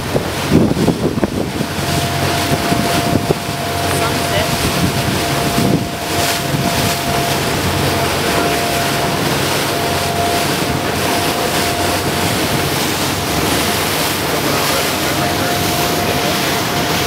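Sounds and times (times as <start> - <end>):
boat engine running: 0.0 - 17.0
sea washing against hull: 0.0 - 17.0
wind on microphone: 0.0 - 17.0
thin steady whine: 1.6 - 17.0.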